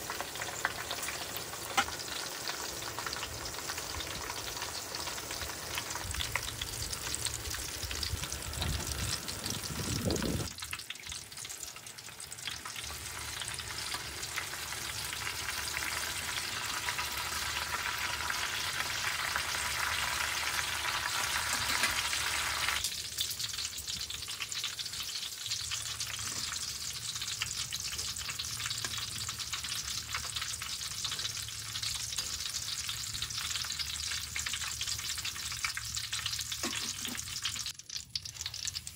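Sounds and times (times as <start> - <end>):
food deep-frying in oil: 0.0 - 38.9.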